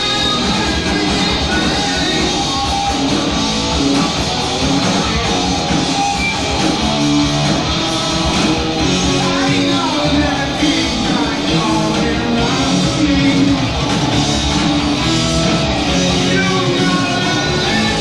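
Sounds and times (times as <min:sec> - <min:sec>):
bass and drums: 0:00.0 - 0:18.0
distorted electric guitar: 0:00.0 - 0:18.0.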